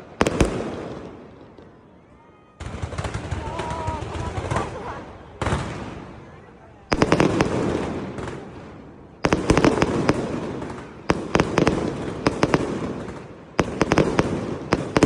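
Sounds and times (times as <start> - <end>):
fireworks sharp cracks: 0.0 - 1.8, 2.6 - 6.2, 6.9 - 15.0
fireworks rumble: 0.0 - 15.0.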